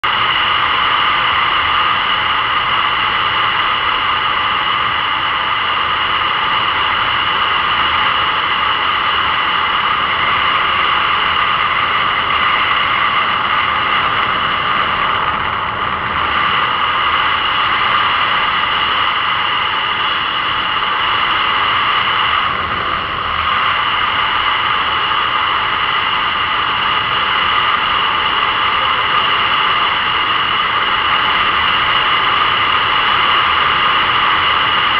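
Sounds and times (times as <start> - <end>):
motorcycle running: 0.0 - 34.9
wind rushing: 0.1 - 34.9.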